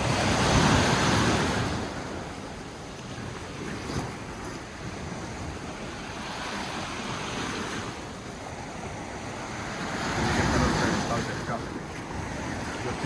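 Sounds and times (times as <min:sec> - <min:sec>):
sea surf washing in: 0:00.0 - 0:13.0
wave breaking: 0:00.0 - 0:13.0
wind buffeting microphone: 0:00.0 - 0:13.0.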